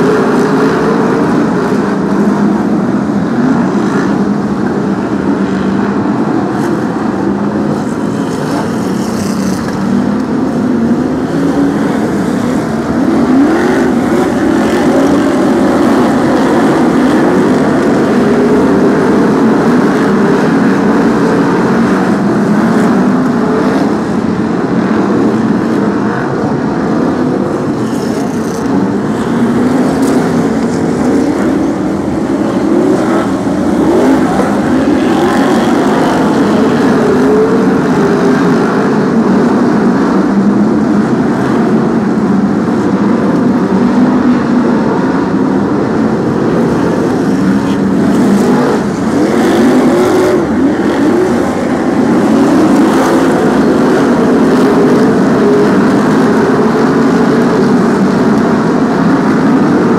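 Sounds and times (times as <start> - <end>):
racing car engines: 0.0 - 59.9.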